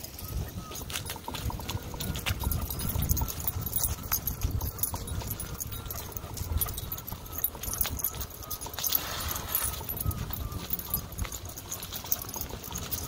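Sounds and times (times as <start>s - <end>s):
clicks and rattles of unicycle: 0.0s - 13.0s
wind rumbling on microphone: 0.0s - 13.0s.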